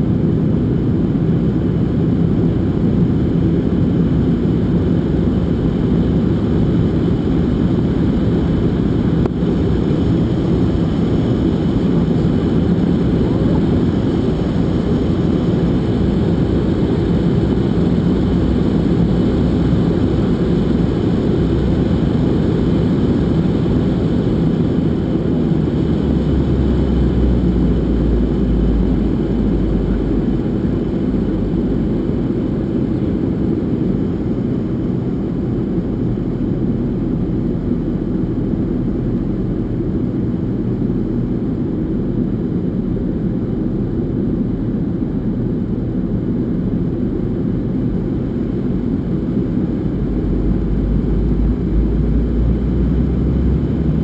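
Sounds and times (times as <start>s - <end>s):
jet engines inside airliner cabin: 0.0s - 54.0s.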